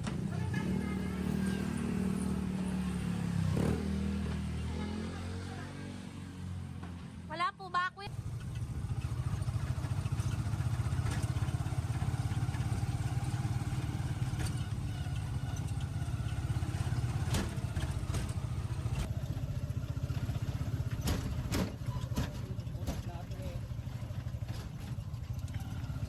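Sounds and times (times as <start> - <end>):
vehicle engine running: 0.0 - 5.7, 8.1 - 26.0.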